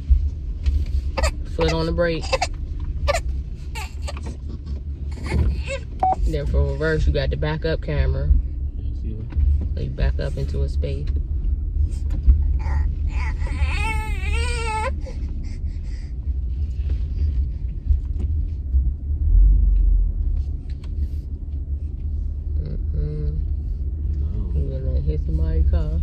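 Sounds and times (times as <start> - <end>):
car cabin rumble: 0.0 - 26.0.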